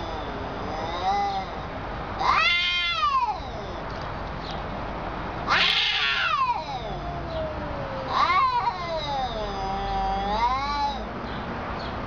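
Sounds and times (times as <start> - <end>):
cats yowling: 0.0 - 4.0, 5.4 - 11.1.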